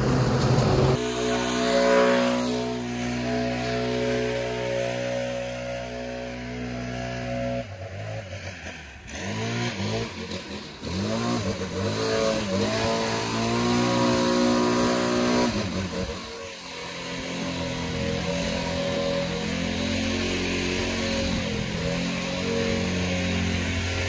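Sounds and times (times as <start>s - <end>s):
leaf blower engine revving: 0.0s - 24.0s.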